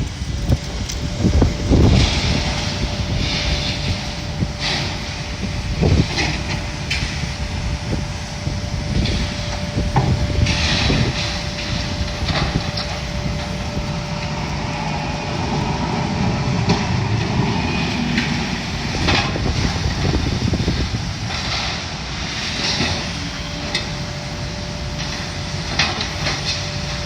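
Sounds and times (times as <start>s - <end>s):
loader engine drone: 0.0s - 27.0s.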